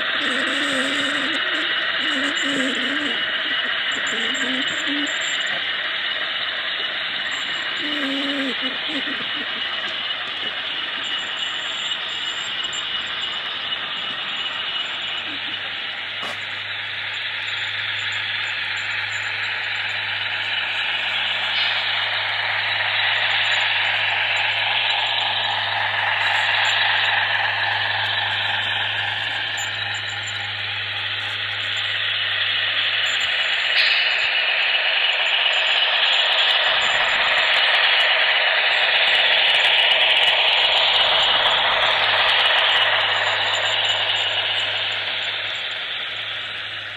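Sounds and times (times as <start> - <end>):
low hum: 0.0 - 46.9
model train running on track: 0.0 - 46.9.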